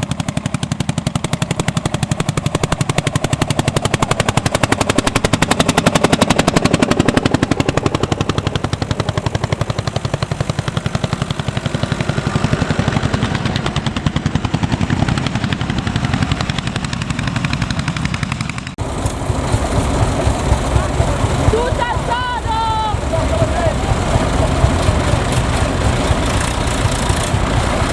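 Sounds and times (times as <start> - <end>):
rough engine running: 0.0 - 27.9
tractor engine chugging: 0.0 - 27.9.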